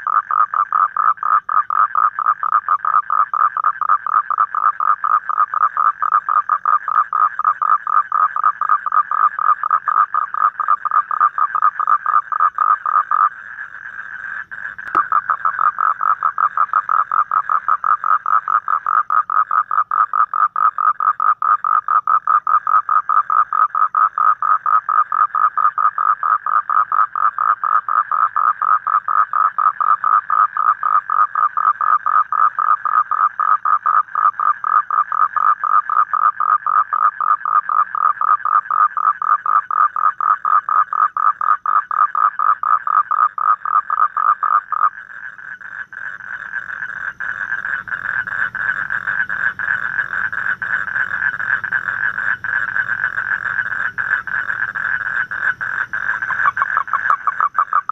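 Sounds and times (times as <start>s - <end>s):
toad trilling: 0.0s - 57.9s.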